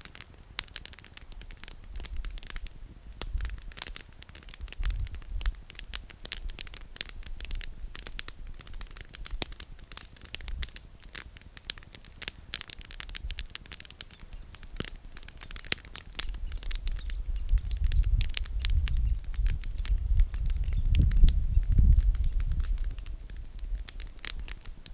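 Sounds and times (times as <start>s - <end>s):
firewood crackling and popping: 0.0s - 24.9s
low rumble of fire: 0.0s - 24.9s.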